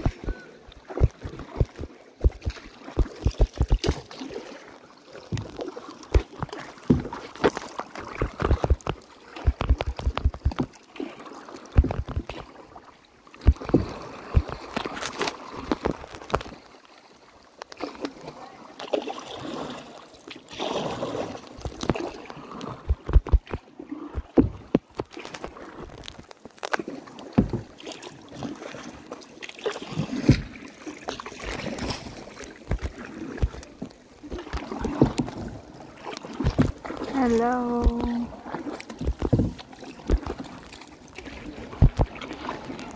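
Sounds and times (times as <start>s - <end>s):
paddle splashing in water: 0.0s - 42.9s
water sloshing and dripping: 0.0s - 42.9s.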